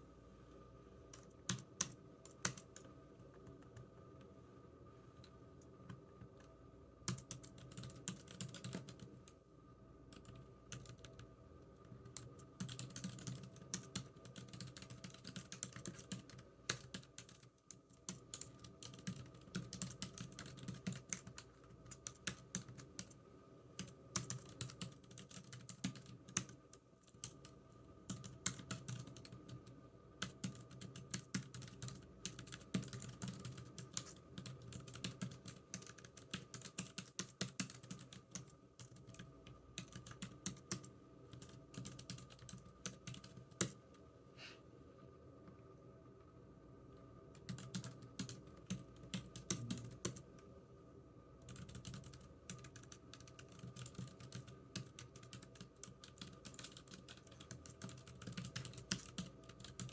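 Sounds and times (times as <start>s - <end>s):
computer keyboard typing: 1.1s - 4.1s, 5.8s - 9.4s, 10.1s - 43.8s, 47.3s - 50.2s, 51.4s - 59.9s.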